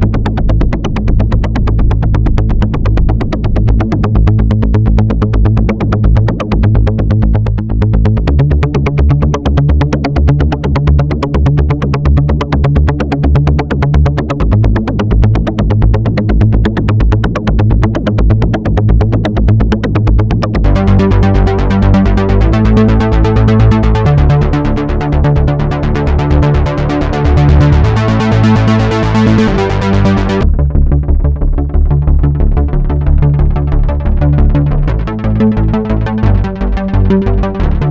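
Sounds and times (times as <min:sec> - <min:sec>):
synthesizer bass line: 0:00.0 - 0:37.9
synthesizer bright repeating notes: 0:00.0 - 0:37.9.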